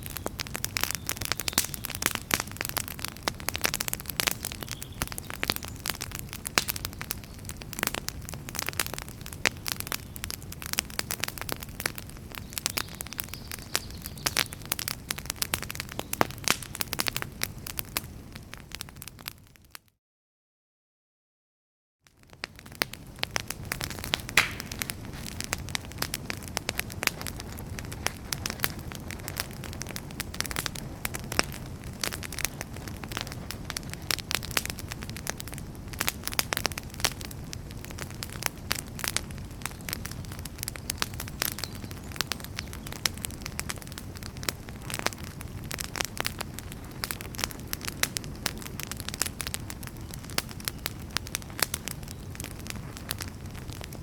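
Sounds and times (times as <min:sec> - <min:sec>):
low rumble of flames: 0:00.0 - 0:19.8, 0:22.1 - 0:54.0
wood fire crackling: 0:00.0 - 0:19.8, 0:22.2 - 0:54.0.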